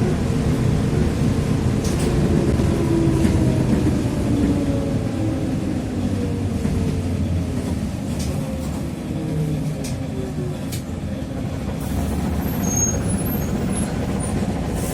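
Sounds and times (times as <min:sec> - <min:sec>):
trolleybus motor whine: 0:00.0 - 0:14.9.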